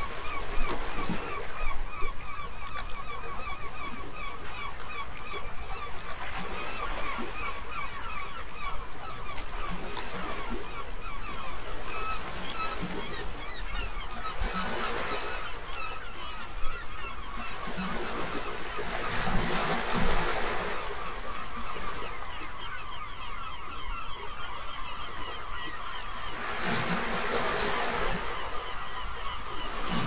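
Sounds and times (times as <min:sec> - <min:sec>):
ocean surf: 0:00.0 - 0:22.6, 0:25.1 - 0:30.0
gulls calling: 0:00.0 - 0:30.0.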